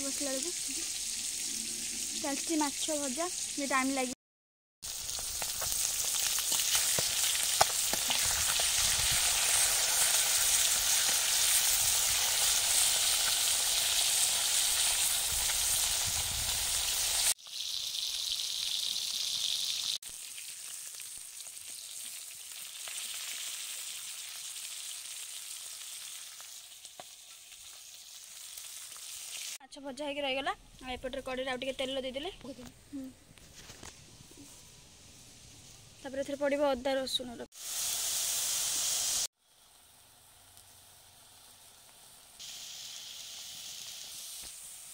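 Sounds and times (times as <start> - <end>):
fish sizzling in hot oil: 0.0 - 4.2, 4.8 - 29.6, 37.4 - 44.9.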